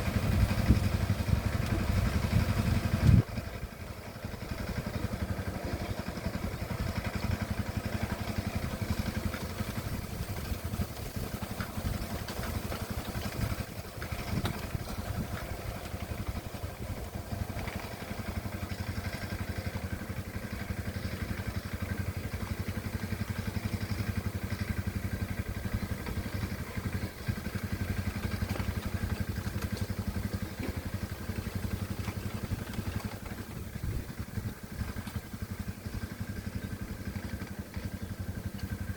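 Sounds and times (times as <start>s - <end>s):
tractor engine chugging: 0.0s - 38.9s.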